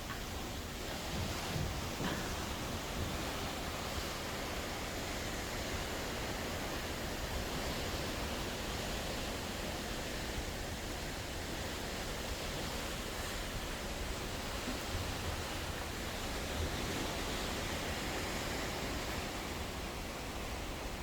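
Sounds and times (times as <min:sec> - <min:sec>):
sea water rushing: 0:00.0 - 0:21.0.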